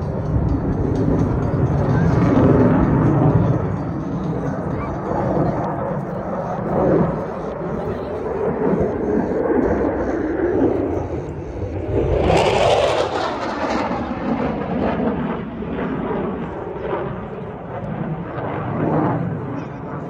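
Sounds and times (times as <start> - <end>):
airplane flying overhead: 0.0 - 20.0.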